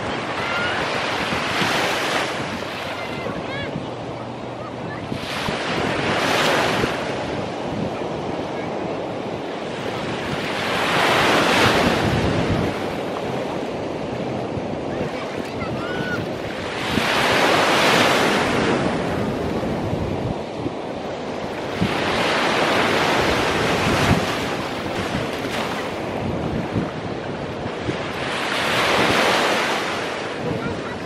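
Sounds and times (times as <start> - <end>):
sea waves breaking on beach: 0.0 - 31.0
wind buffeting microphone: 0.0 - 31.0.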